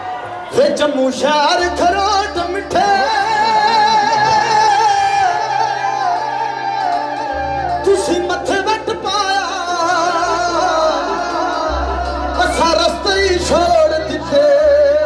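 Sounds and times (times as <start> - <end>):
music with deep bass notes: 1.2 - 15.0
person singing ornamented melody: 1.2 - 15.0.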